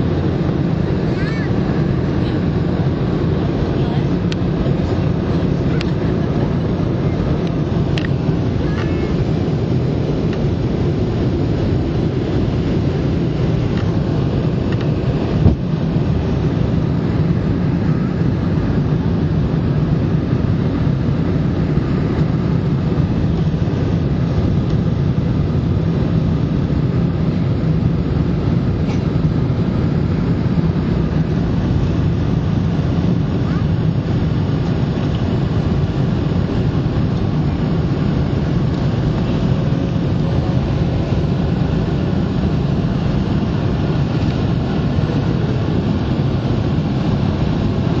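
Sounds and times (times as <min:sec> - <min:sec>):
airflow: 0:00.0 - 0:48.0
jet engine rumble in cabin: 0:00.0 - 0:48.0.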